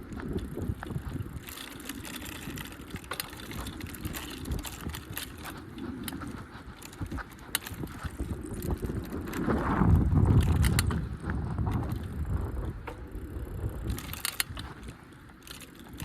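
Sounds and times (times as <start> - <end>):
bicycle mechanical clicks: 0.0 - 16.0.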